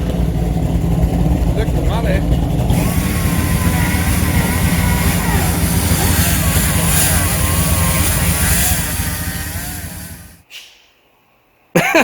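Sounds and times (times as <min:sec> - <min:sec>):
car engine running: 0:00.0 - 0:10.4.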